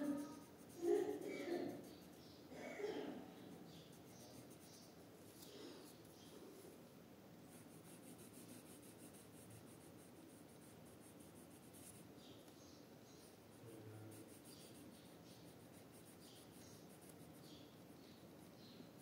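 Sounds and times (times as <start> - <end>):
pencil scratching on paper: 0.0 - 2.2, 3.7 - 6.3, 7.5 - 12.4, 13.2 - 19.0.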